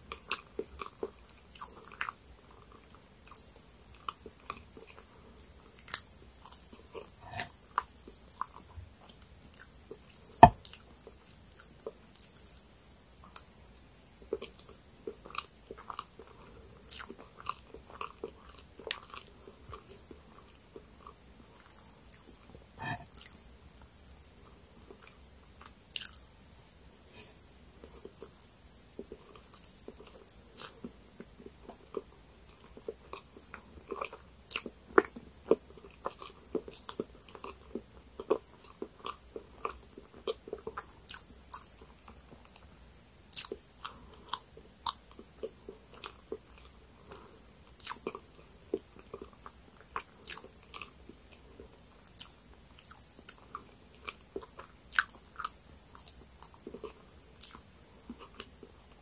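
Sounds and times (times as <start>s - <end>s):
mouth chewing with wet smacks: 0.0s - 23.4s, 24.4s - 26.4s, 27.2s - 59.0s.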